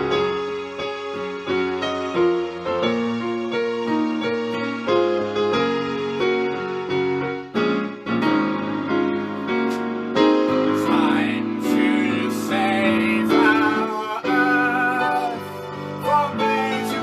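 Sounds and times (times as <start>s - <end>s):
piano-led music: 0.0s - 17.0s.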